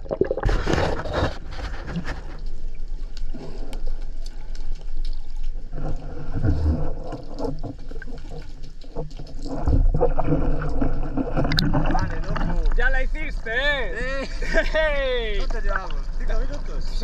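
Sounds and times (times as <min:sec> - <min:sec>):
muffled underwater water sloshing: 0:00.0 - 0:17.0.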